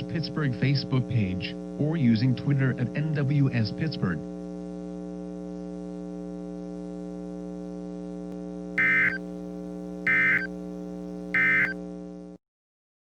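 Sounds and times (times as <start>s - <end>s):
steady electrical hum: 0.0s - 12.4s.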